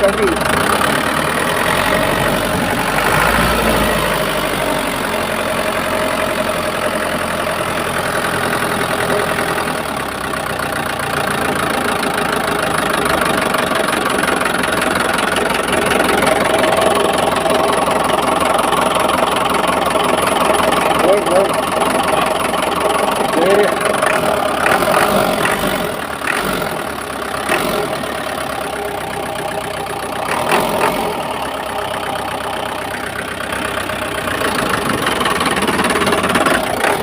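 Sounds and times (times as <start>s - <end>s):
old engine idling: 0.0s - 37.0s.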